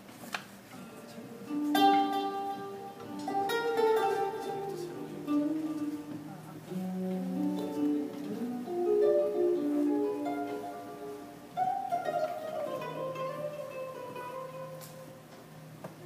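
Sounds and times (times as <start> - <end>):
acoustic guitar playing: 0.7 - 15.8.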